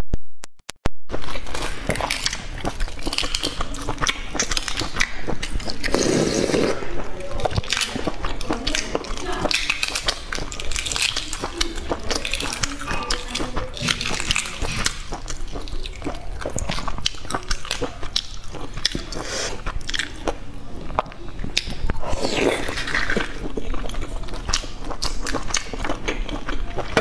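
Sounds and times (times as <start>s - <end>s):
eggshells crackling: 1.1s - 26.6s
biting and chewing: 1.1s - 27.0s.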